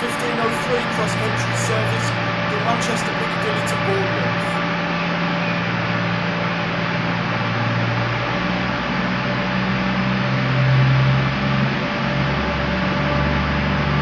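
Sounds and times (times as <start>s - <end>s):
train diesel engines running hard: 0.0s - 14.0s.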